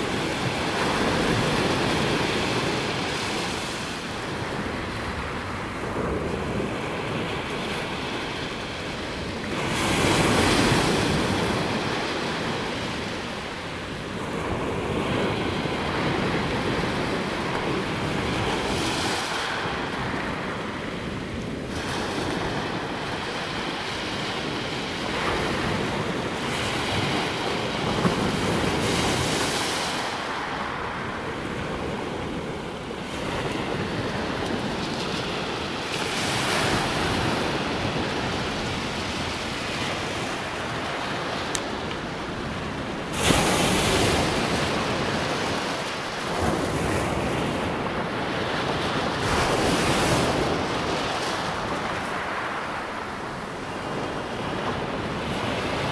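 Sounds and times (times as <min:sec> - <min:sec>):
sea waves breaking on beach: 0:00.0 - 0:55.9
wind buffeting microphone: 0:00.0 - 0:55.9.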